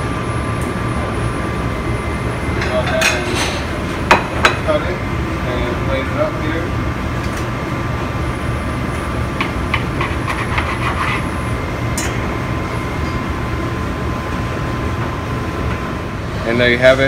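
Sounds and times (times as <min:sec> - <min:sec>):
kitchen ventilation rumble: 0:00.0 - 0:17.0.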